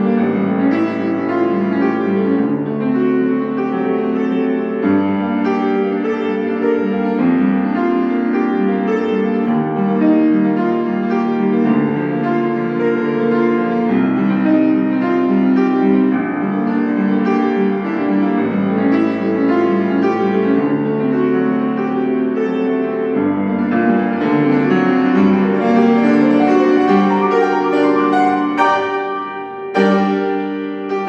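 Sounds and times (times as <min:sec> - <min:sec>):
solo piano playing: 0:00.0 - 0:31.0.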